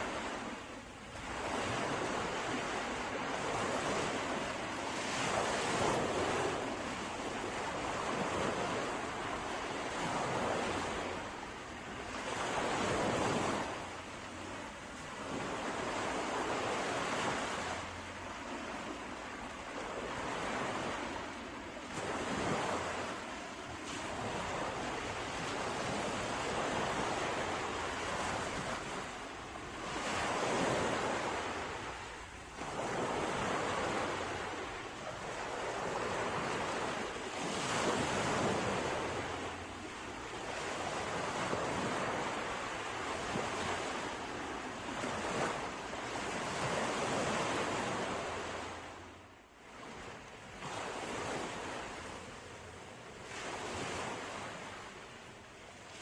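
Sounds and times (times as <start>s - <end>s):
sea waves washing onto shore: 0.0s - 56.0s.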